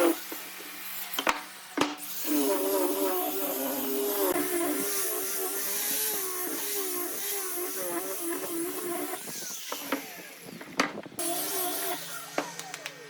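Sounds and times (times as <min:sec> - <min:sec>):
power tool motor working wood: 0:00.0 - 0:13.0.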